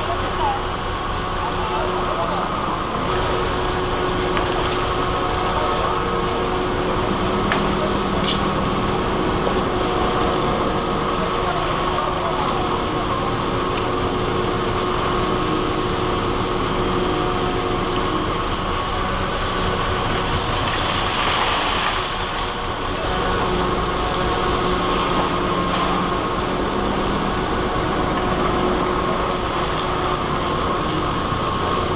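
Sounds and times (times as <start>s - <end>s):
constant hum tones: 0.0s - 31.9s
idling engines and machinery: 0.0s - 31.9s.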